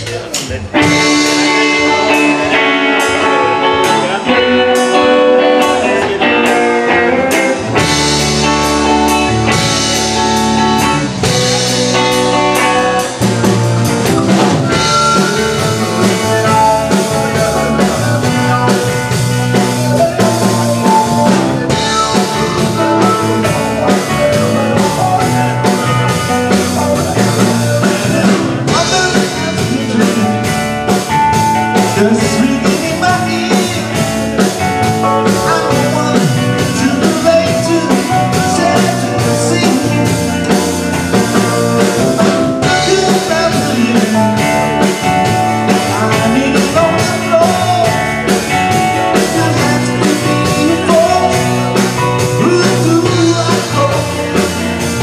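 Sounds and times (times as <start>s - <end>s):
drum kit: 0.0s - 55.0s
electric guitars: 0.0s - 55.0s
keyboard: 0.0s - 55.0s.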